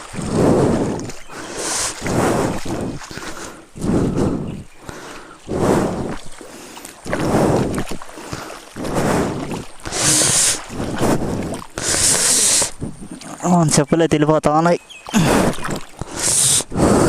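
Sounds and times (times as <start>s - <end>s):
feet splashing through water: 0.0s - 13.8s, 14.8s - 17.0s.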